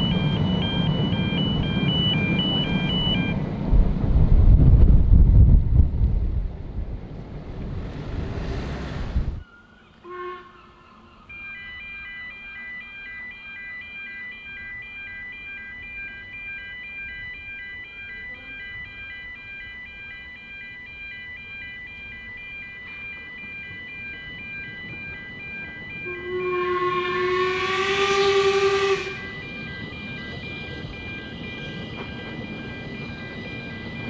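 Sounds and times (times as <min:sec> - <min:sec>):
level crossing warning alarm: 0:00.0 - 0:03.4, 0:09.4 - 0:34.0.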